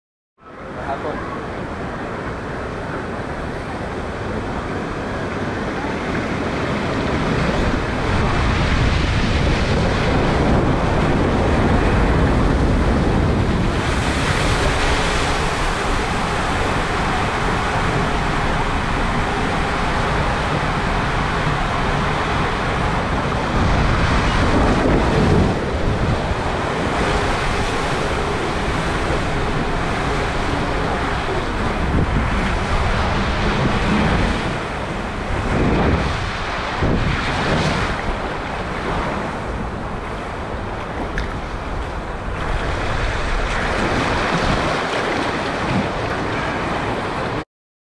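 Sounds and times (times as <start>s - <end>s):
water rushing and splashing: 0.4s - 47.4s
wind buffeting microphone: 0.6s - 47.4s.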